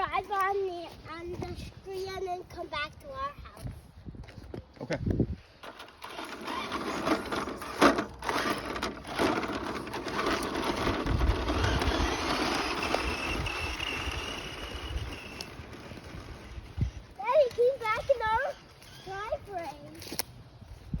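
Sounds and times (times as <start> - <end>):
wheels crunching over rough pavement: 0.0 - 21.0.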